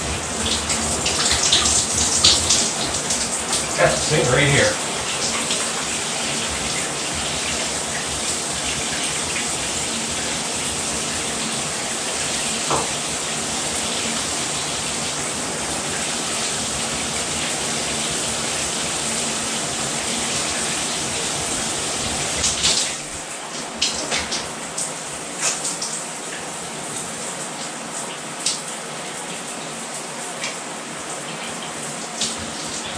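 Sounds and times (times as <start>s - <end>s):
shower water spray rushing: 0.0s - 32.9s
water splashes and drips: 0.0s - 32.9s.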